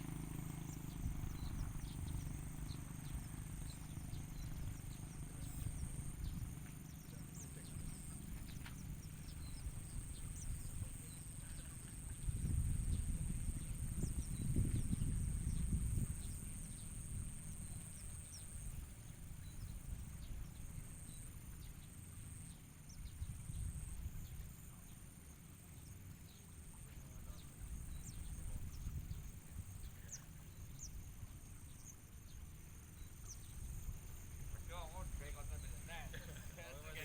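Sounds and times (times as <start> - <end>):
wind rumble on microphone: 0.0 - 25.0, 26.8 - 37.0.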